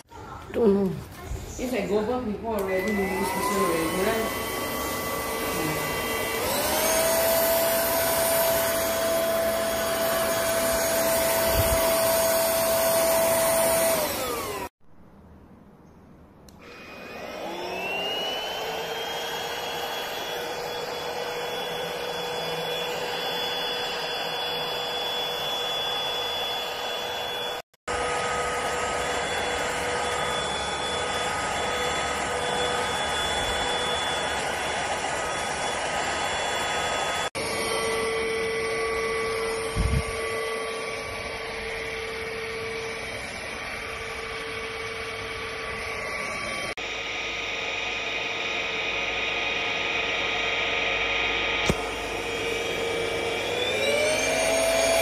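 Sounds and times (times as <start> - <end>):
stick vacuum motor whine: 2.5 - 14.7, 16.5 - 55.0.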